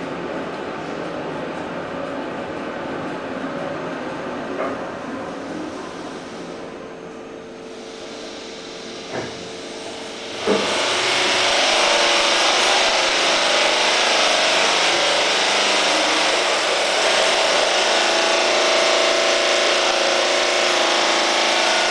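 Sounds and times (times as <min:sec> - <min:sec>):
elevator ride rushing noise: 0:00.0 - 0:18.5.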